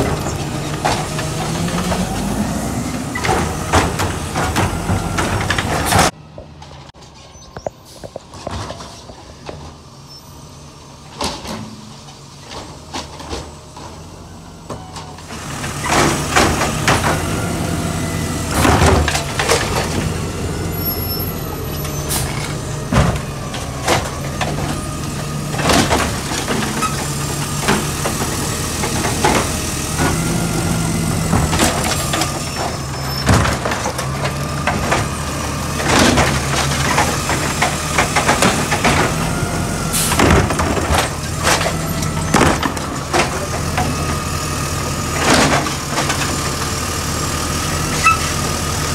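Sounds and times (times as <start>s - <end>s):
garbage truck diesel engine: 0.0s - 48.9s.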